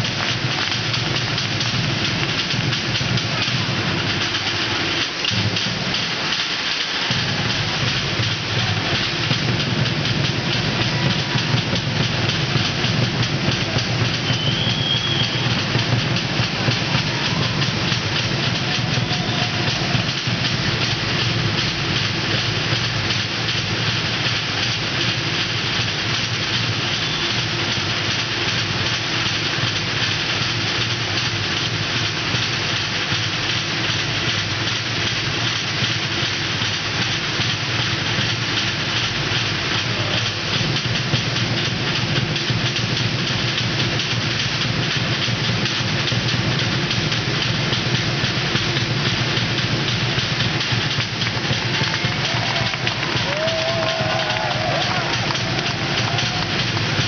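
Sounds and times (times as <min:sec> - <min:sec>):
fast drumming: 0:00.0 - 0:57.0.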